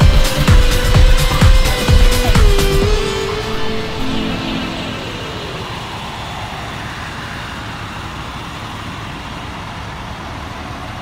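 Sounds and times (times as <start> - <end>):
fire engines running: 0.0 - 11.0.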